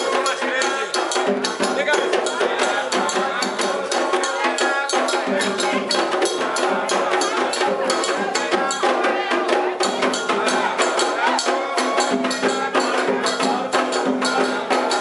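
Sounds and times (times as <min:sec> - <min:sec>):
hand drums: 0:00.0 - 0:15.0
struck bell: 0:00.0 - 0:15.0
voices chanting: 0:00.0 - 0:15.0.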